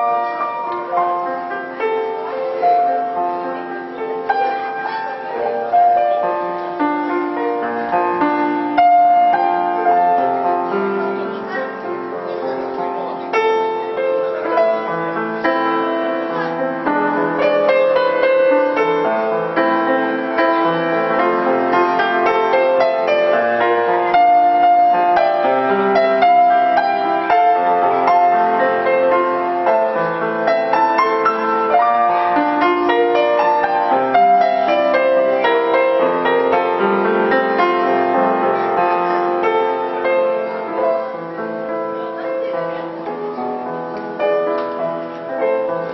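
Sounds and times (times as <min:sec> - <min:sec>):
slow piano melody: 0:00.0 - 0:45.9.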